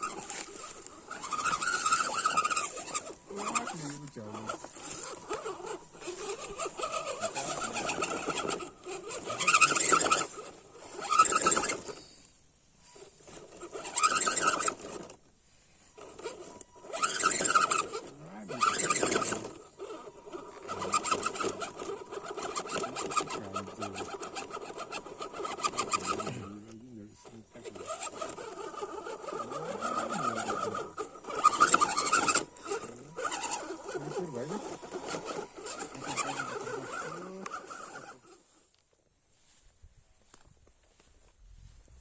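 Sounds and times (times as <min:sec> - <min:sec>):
electric motor and gears whining: 0:00.0 - 0:39.6.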